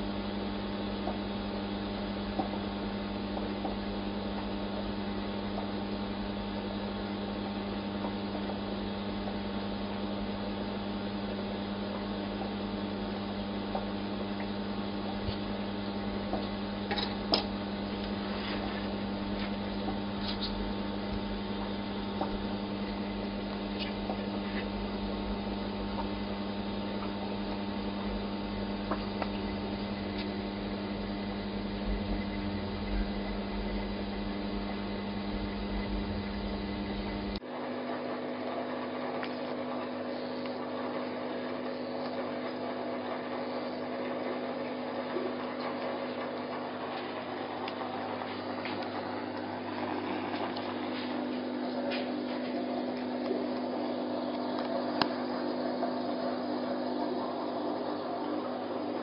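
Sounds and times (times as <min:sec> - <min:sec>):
aquarium pump humming: 0:00.0 - 0:59.0.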